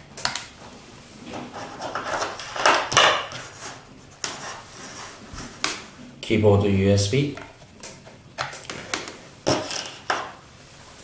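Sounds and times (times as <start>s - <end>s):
cable and casing rustling: 0.2s - 6.0s, 7.3s - 10.5s.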